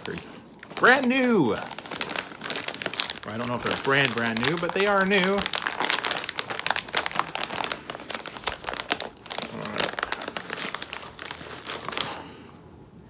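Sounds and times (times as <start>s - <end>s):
plastic snack bag crinkling: 0.0s - 12.5s.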